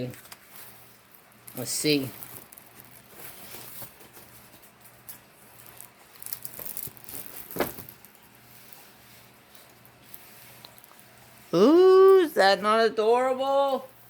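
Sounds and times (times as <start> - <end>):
canvas and packaging rustling: 0.0 - 12.2.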